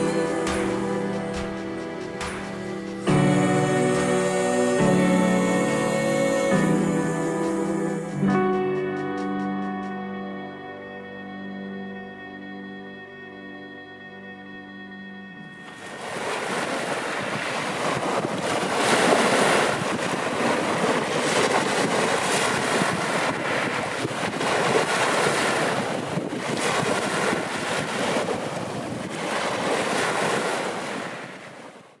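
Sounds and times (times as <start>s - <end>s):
wind: 0.0s - 10.0s, 14.8s - 32.0s
sea surf: 0.0s - 11.2s, 15.2s - 32.0s.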